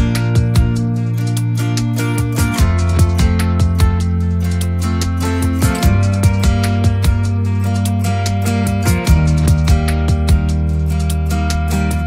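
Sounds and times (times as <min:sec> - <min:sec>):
upbeat plucked guitar music: 0:00.0 - 0:12.0.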